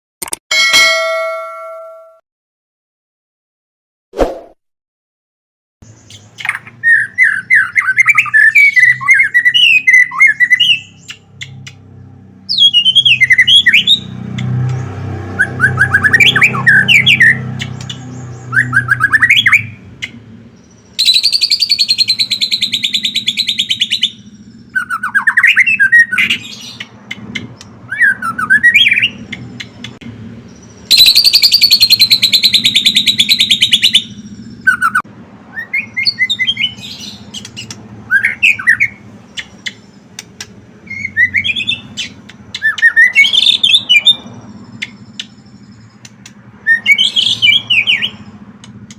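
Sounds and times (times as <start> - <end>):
songbird singing: 5.8 - 48.9.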